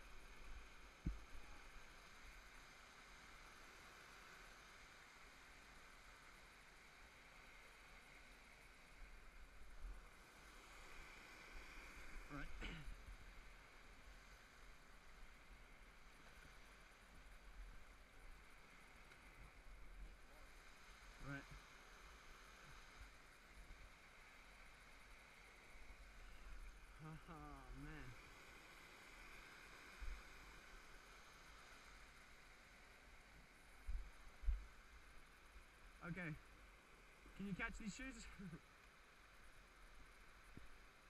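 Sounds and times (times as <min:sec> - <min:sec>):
flowing river water: 0:00.0 - 0:41.0
outdoor background hiss: 0:00.0 - 0:41.0.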